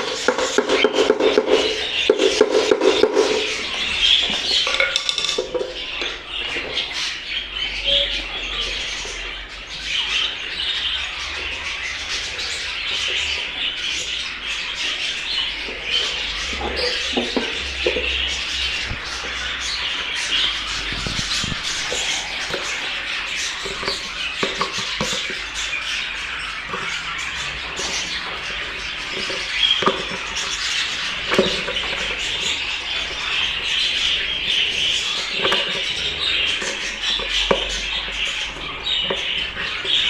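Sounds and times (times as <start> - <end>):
budgerigars chattering and chirping: 0.0 - 40.0.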